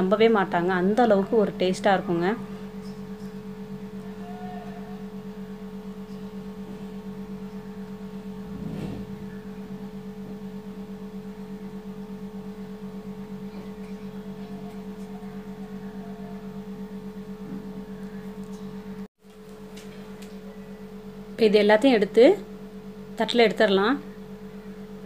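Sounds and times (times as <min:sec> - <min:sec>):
pulsing electrical hum: 0:00.0 - 0:25.0.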